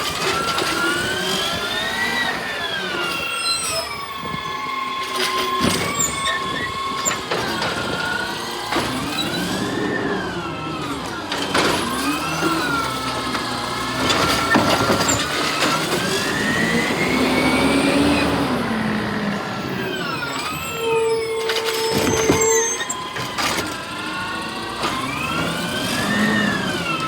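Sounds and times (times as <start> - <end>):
garbage truck engine revving: 0.0 - 27.0.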